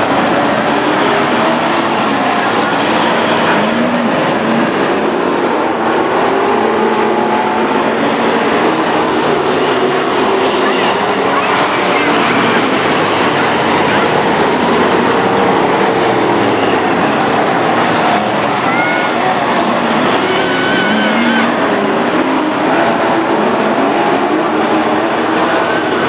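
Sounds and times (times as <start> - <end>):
racing car engines droning: 0.0 - 26.0.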